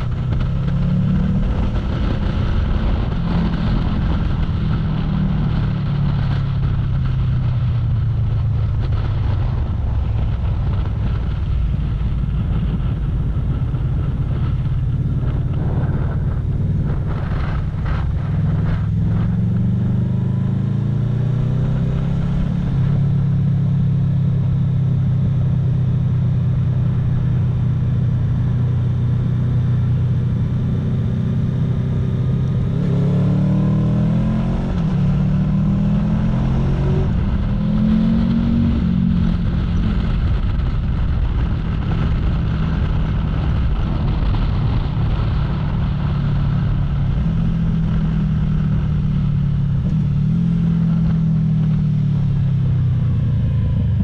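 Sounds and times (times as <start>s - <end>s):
motorcycle engine accelerating: 0.0s - 54.0s
wind noise: 0.0s - 54.0s.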